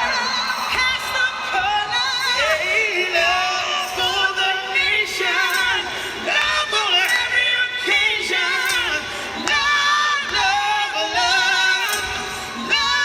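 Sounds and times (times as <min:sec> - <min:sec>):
man and woman singing a duet: 0:00.0 - 0:13.0.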